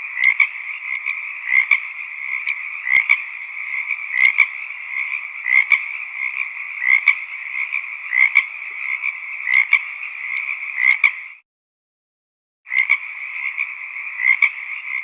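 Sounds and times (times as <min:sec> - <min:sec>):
frogs croaking: 0:00.0 - 0:11.4, 0:12.7 - 0:15.0
loud frog call: 0:00.0 - 0:11.4, 0:12.7 - 0:15.0.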